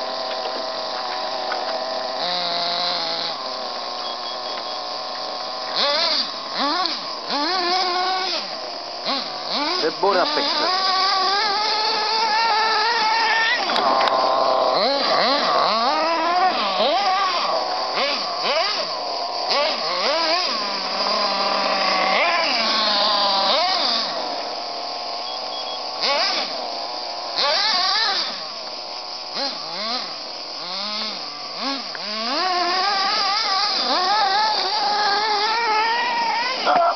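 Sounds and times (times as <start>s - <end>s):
rc car motor revving: 0.0s - 36.9s.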